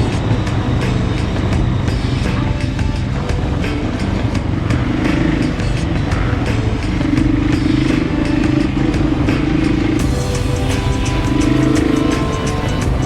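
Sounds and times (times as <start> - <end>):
background music with beat: 0.0 - 13.0.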